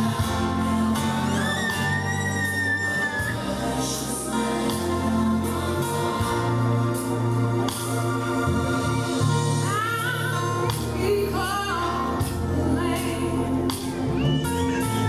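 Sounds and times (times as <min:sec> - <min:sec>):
gospel singing: 0:00.0 - 0:15.0
steady bass line: 0:00.0 - 0:15.0.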